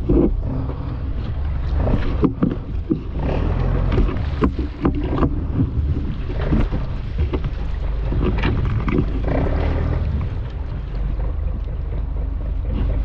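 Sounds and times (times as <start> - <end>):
boat low rumble: 0.0 - 13.0
fish thrashing in water: 0.0 - 13.0.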